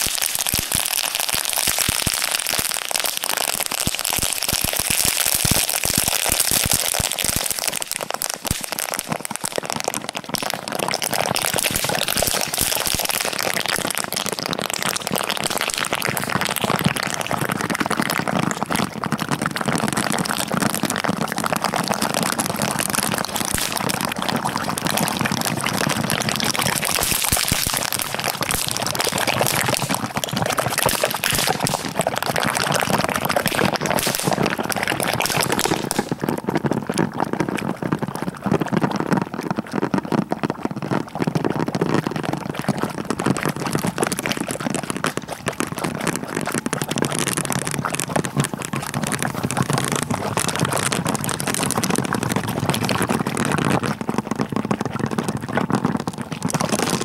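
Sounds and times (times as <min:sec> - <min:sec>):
firecrackers crackling: 0:00.0 - 0:36.9, 0:43.4 - 0:54.3, 0:55.8 - 0:57.0.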